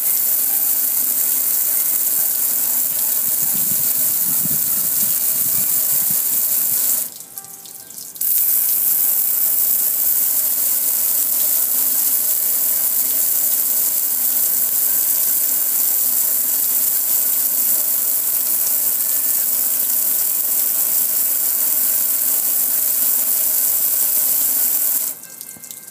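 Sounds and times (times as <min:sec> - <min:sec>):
water spray hissing on grill: 0:00.0 - 0:07.2, 0:08.1 - 0:25.9
water splashing on metal: 0:00.0 - 0:25.9.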